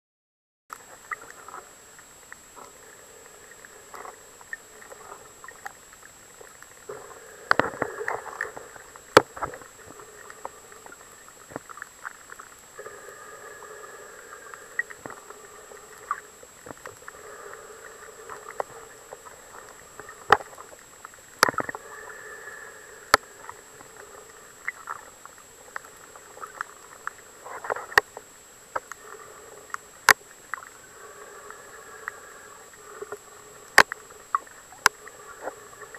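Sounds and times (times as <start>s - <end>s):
sharp clicks and crackles: 0.7s - 12.8s, 13.4s - 35.9s
muffled underwater hiss: 0.7s - 35.9s
faint steady high tone: 0.9s - 35.9s.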